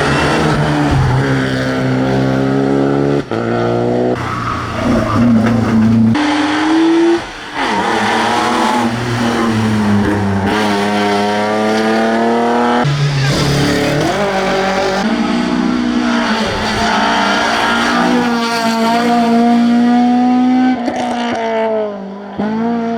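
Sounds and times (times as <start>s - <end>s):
rally car engine revving: 0.0s - 22.9s.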